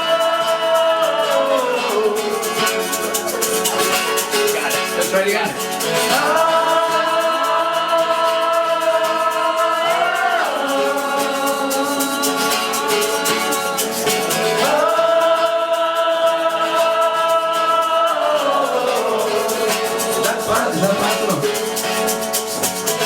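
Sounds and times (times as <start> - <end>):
shaker rattling: 0.0 - 23.0.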